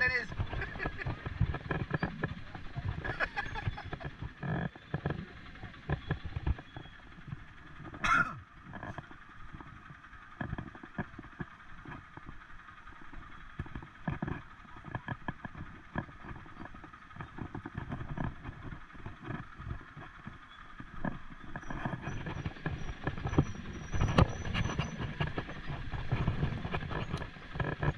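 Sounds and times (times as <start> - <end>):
atv engine hum: 0.0 - 27.9.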